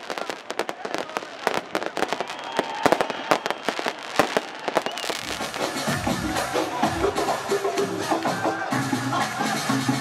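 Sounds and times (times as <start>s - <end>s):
fireworks and firecrackers banging: 0.0s - 8.6s.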